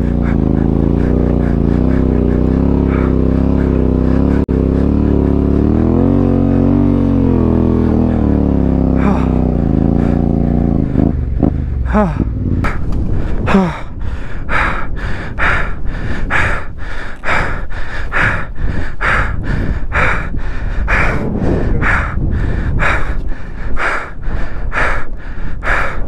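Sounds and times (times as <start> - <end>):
person panting hard: 0.0 - 26.0
steady low rumble: 0.0 - 26.0.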